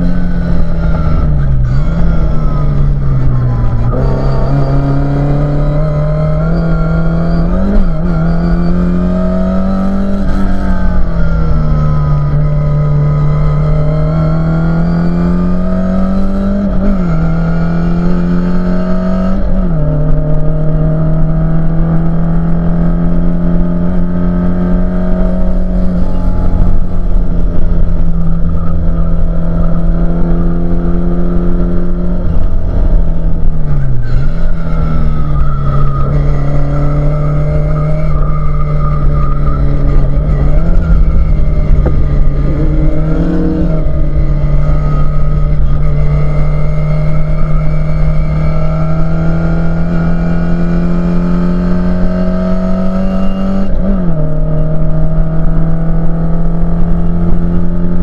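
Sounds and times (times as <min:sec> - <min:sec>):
race car engine revving hard: 0:00.0 - 0:58.0.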